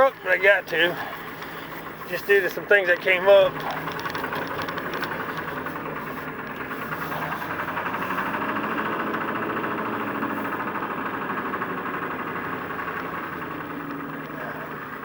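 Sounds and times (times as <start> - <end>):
diesel engine ticking: 0.0 - 15.0.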